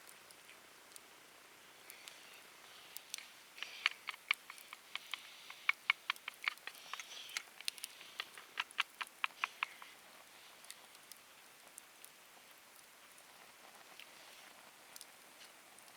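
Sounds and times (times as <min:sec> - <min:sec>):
faint fire hiss: 0:00.0 - 0:15.9
wood fire crackling and popping: 0:01.8 - 0:15.9.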